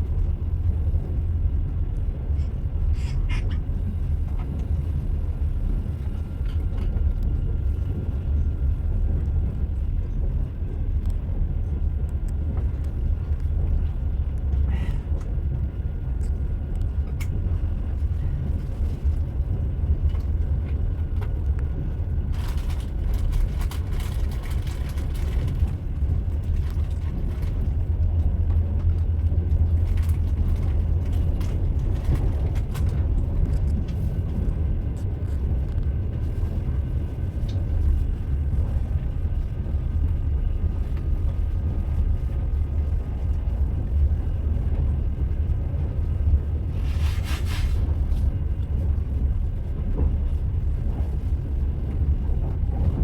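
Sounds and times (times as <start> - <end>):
train clicks and rattles: 0.0 - 53.0
train rumbling on rails: 0.0 - 53.0.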